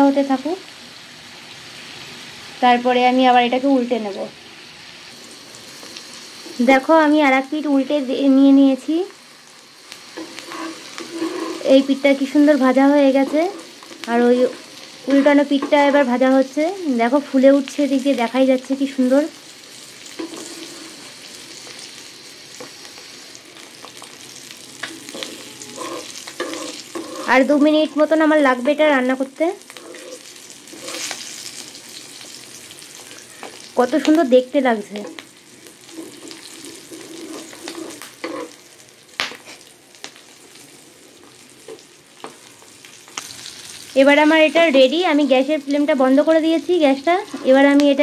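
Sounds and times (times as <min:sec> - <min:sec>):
eggs sizzling in oil: 0:00.0 - 0:48.0.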